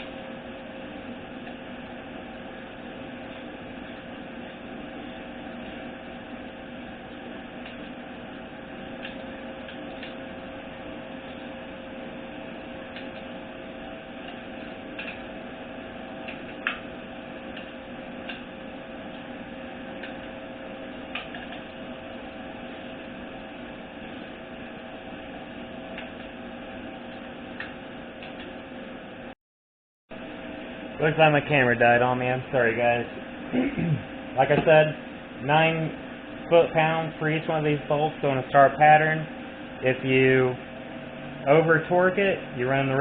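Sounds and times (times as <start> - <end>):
workshop hum: 0.0 - 29.4, 30.1 - 43.0.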